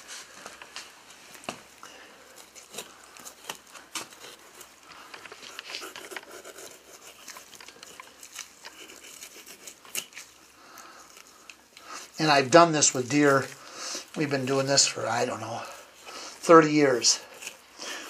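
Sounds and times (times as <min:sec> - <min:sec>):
knife scraping meat: 0:02.3 - 0:18.0.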